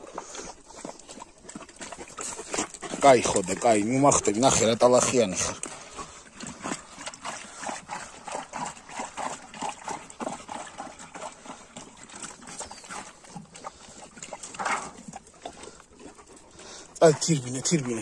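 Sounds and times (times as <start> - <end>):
dog lapping water: 0.0 - 18.0.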